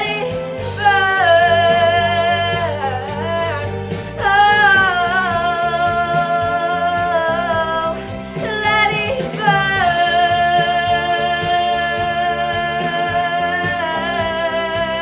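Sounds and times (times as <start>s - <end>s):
backing music: 0.0s - 15.0s.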